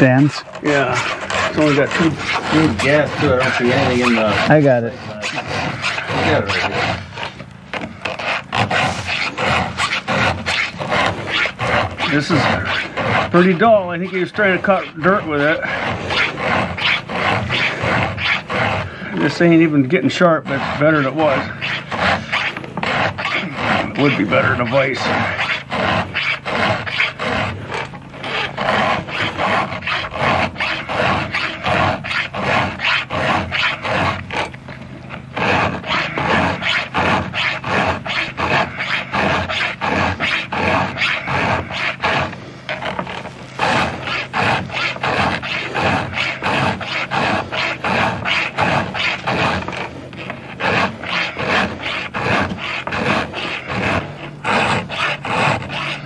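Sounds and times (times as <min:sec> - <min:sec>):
file scraping chainsaw chain: 0:00.0 - 0:56.0.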